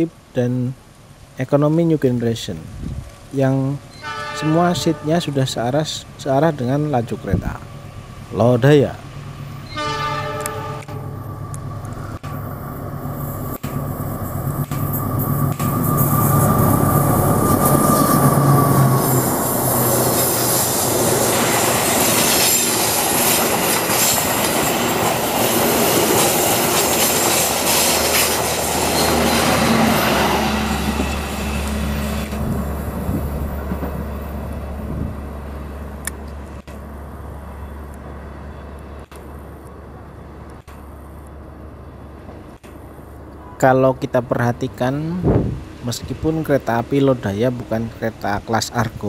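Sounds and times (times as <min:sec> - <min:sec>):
diesel locomotive engine hum: 0:02.6 - 0:49.0
train wheels rumbling on rails: 0:03.9 - 0:43.5.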